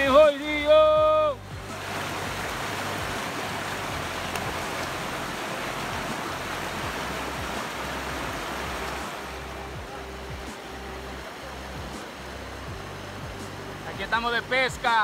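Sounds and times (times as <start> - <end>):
river rapids rushing over rocks: 0.0 - 15.0.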